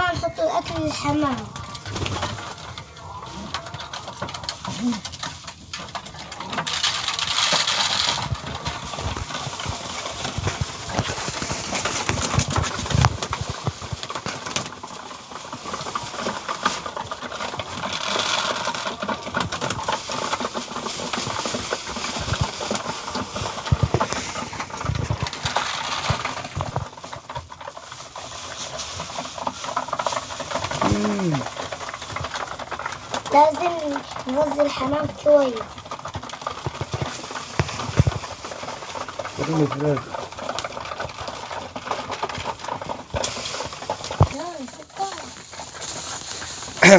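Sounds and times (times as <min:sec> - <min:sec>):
pigeons pecking grain: 0:00.0 - 0:46.9
rustling of feet and wings: 0:00.0 - 0:46.9.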